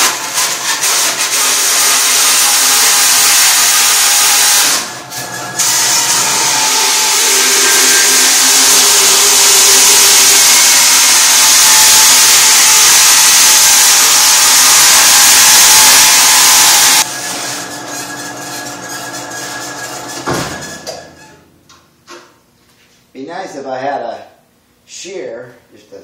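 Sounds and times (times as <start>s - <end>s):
band saw screeching through metal: 0.0s - 21.5s.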